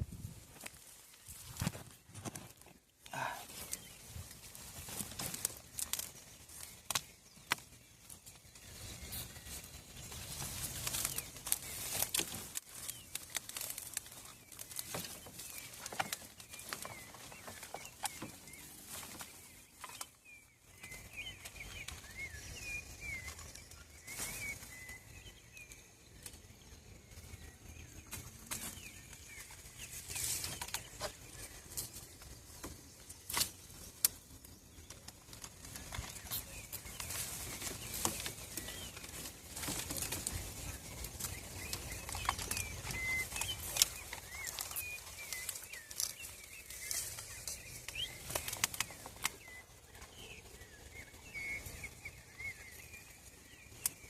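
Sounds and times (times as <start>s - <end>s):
rustling: 0.0s - 22.3s, 28.1s - 54.0s
small bird chirping: 0.0s - 54.0s.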